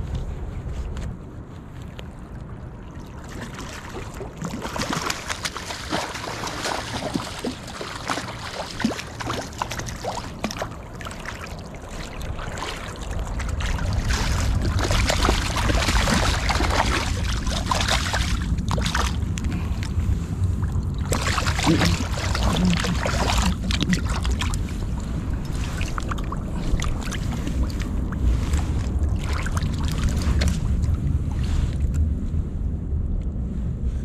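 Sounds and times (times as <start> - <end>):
low rumble: 0.0 - 34.0
river water running: 2.1 - 31.9.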